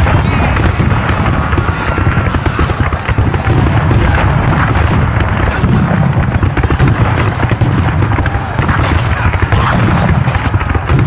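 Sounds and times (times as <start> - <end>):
crackle of gunshots: 0.0 - 11.0.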